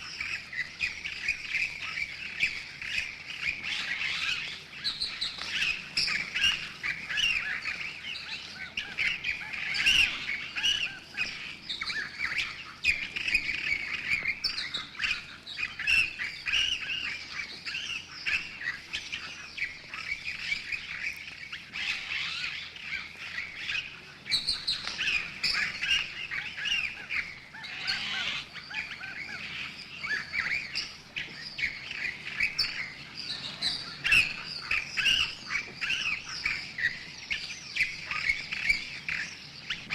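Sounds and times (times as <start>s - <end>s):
small birds squeaking and chirping: 0.0s - 39.9s.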